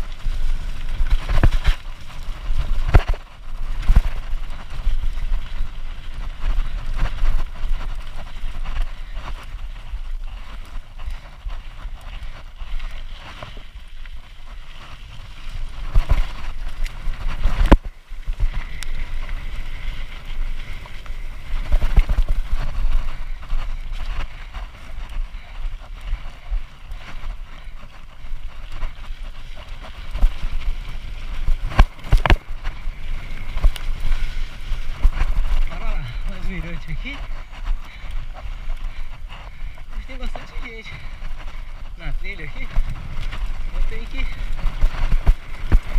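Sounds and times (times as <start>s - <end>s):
mountain bike tyre and frame rattle: 0.0s - 45.9s
wind on microphone: 0.0s - 45.9s.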